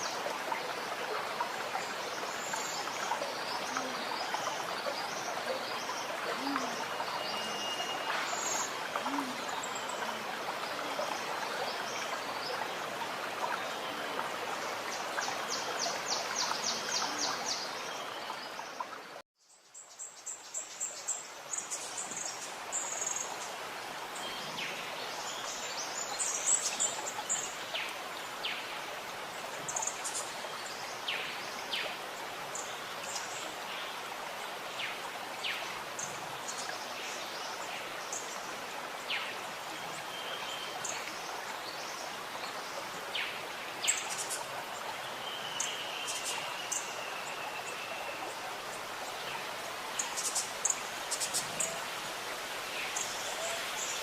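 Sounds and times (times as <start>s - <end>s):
running water gurgling: 0.0s - 19.2s, 20.0s - 54.0s.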